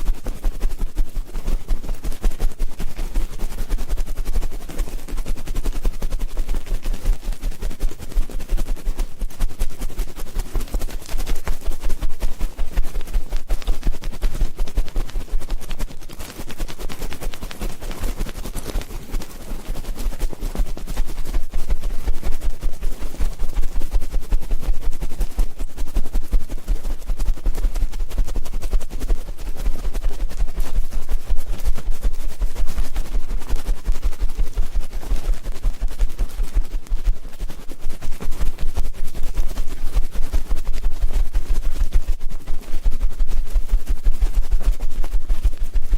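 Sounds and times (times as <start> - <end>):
crackling scratches and clicks: 0.0 - 45.9.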